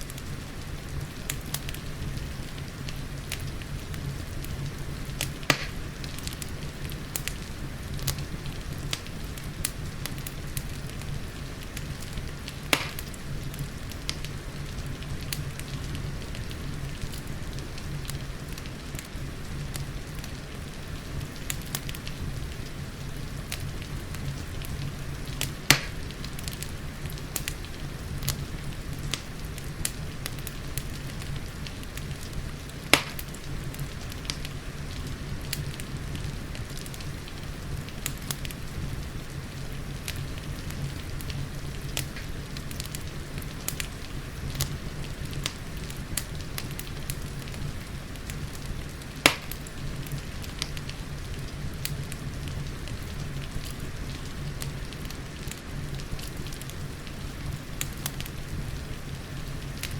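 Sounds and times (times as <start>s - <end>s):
sharp pops of fire: 0.0s - 20.4s, 23.4s - 59.9s
wood fire crackling: 0.0s - 59.9s.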